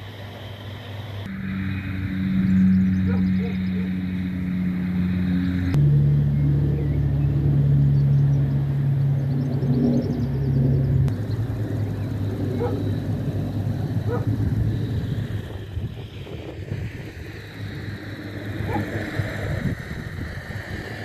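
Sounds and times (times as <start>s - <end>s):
car engine running: 2.5s - 21.0s.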